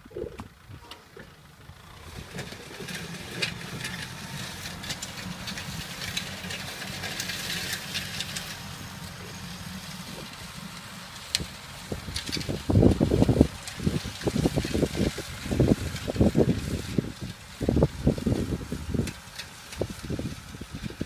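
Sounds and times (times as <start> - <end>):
tractor engine under load: 0.0 - 21.0
harrow clanking and rattling: 0.5 - 21.0.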